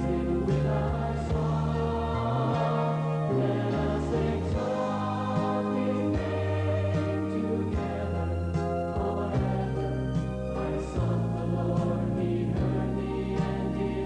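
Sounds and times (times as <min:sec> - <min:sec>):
choir singing held notes: 0:00.0 - 0:14.0
stepping bass line: 0:00.0 - 0:14.0.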